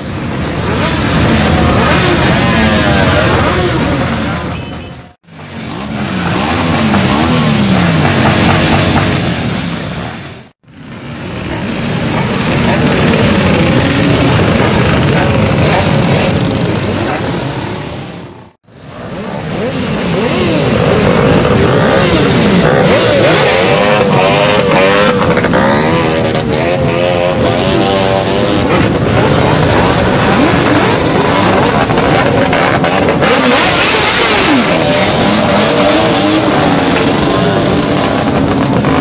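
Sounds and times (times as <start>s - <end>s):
motorcycles revving past: 5.4s - 10.2s, 11.6s - 18.2s, 18.8s - 39.0s.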